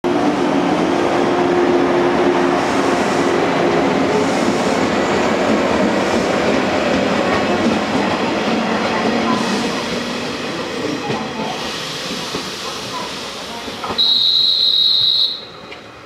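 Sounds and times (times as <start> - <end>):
train wheels rumbling on rail: 0.1 - 16.0.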